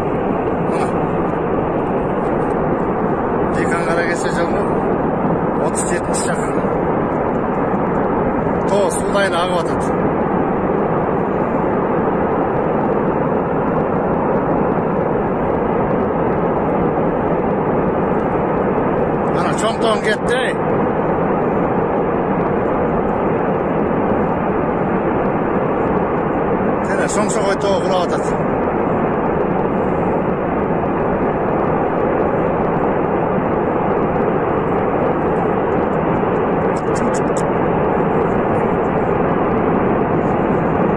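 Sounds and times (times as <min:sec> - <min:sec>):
landslide rumbling: 0:00.0 - 0:40.9.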